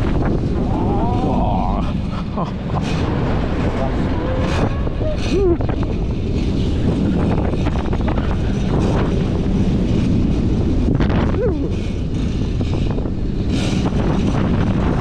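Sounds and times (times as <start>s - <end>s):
roller coaster train rumbling: 0.0s - 15.0s
wind rushing over microphone: 0.0s - 15.0s.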